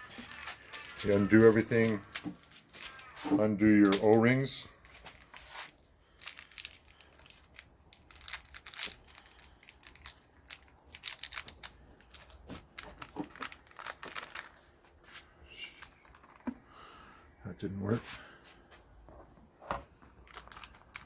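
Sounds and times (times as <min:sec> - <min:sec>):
hands rustling small parts: 0:00.0 - 0:16.6, 0:20.0 - 0:21.0.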